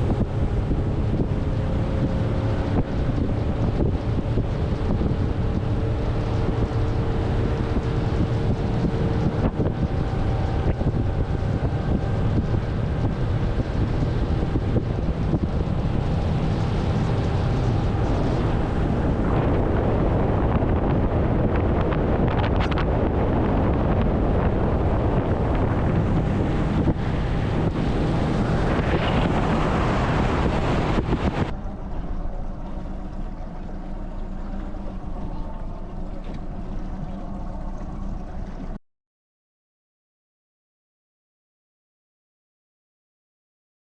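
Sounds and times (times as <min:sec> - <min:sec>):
motorboat engine running: 0:00.0 - 0:38.8
water rushing past hull: 0:00.0 - 0:38.8
wind buffeting microphone: 0:00.0 - 0:38.8.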